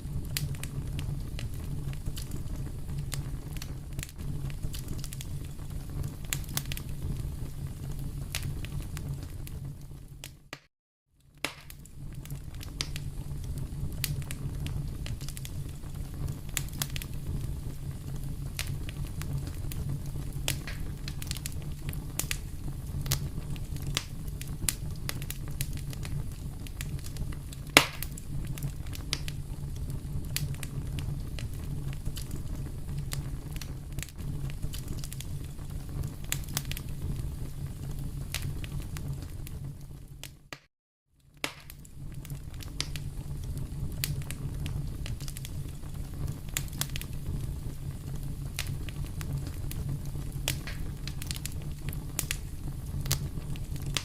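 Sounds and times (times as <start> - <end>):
low rumble of flames: 0.0 - 10.6, 11.2 - 40.6, 41.2 - 54.0
fire crackling and popping: 0.0 - 54.0.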